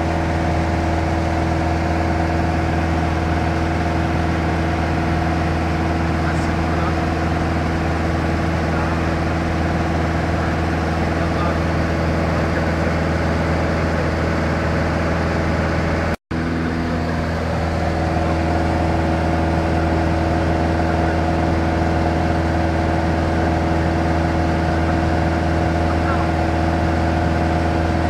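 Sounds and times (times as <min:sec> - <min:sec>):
aircraft engine and propeller droning: 0:00.0 - 0:28.0.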